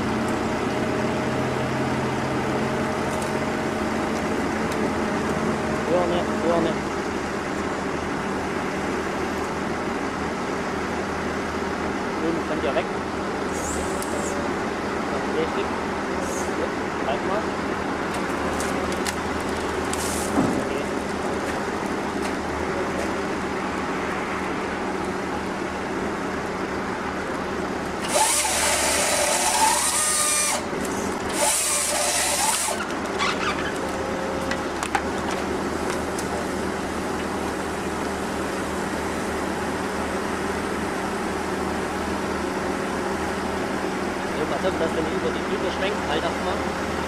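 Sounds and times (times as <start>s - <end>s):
engine running: 0.0s - 47.0s.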